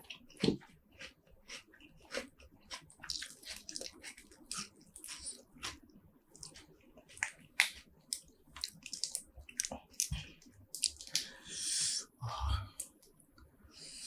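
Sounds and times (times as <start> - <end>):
wet chewing and smacking: 0.0 - 11.3.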